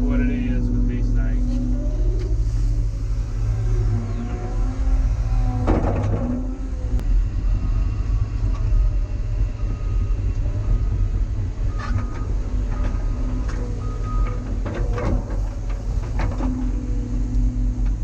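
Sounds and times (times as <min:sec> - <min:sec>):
diesel engine running under load: 0:00.0 - 0:18.0
hydraulic whine: 0:00.0 - 0:18.0.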